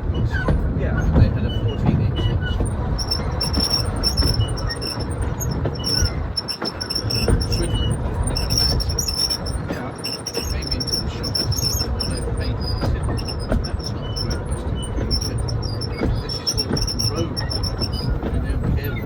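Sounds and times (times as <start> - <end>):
train rumbling on rails: 0.0 - 19.0
wheels squealing on track: 0.0 - 19.0.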